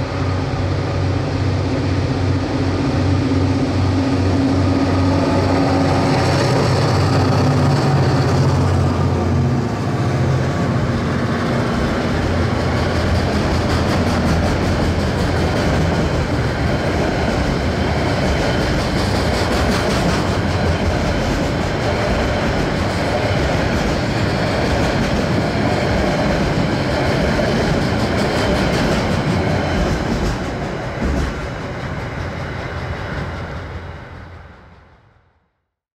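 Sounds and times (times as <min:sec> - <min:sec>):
clickety-clack of wheels on rails: 0:00.0 - 0:35.1
train wagons rumbling: 0:00.0 - 0:35.1
locomotive engine drone: 0:00.0 - 0:35.4.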